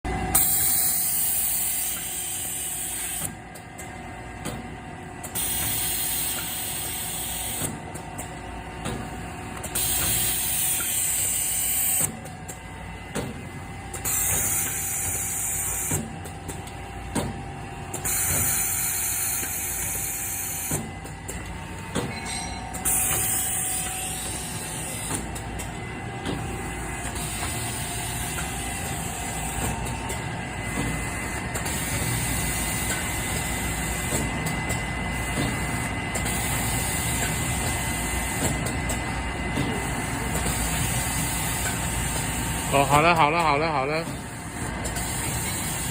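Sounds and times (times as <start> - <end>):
machine mechanical hum: 0.1 - 45.9.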